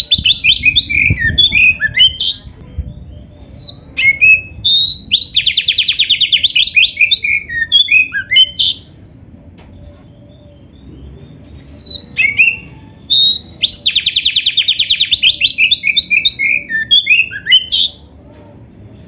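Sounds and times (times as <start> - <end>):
songbird whistling and trilling: 0.0 - 9.0, 10.1 - 18.0.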